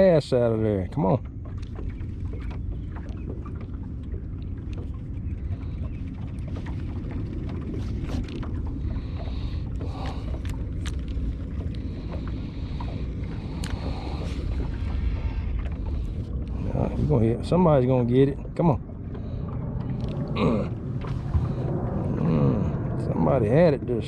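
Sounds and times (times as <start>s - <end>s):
fishing boat engine rumble: 0.0s - 24.0s.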